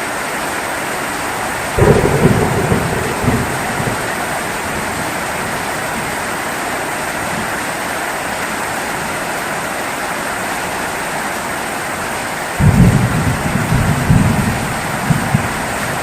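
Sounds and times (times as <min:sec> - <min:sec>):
heavy rainfall: 0:00.0 - 0:16.0.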